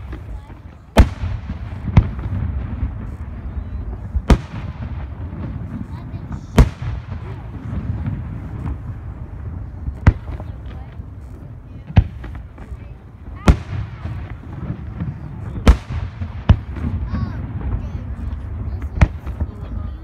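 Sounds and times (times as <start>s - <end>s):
firework shells bursting: 0.0s - 19.8s.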